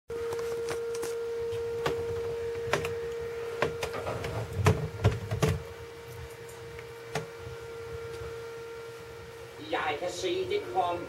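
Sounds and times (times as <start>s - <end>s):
high-pitched hum: 0.1s - 11.0s.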